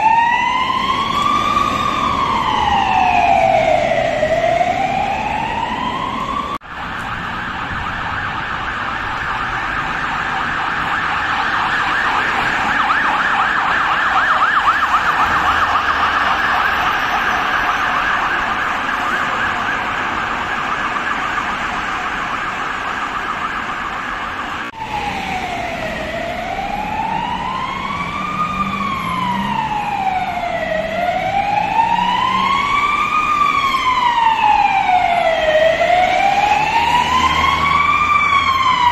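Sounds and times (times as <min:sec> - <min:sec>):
police siren slow wail: 0:00.0 - 0:38.9
wailing siren: 0:00.0 - 0:38.9
warbling yelp siren: 0:00.0 - 0:38.9.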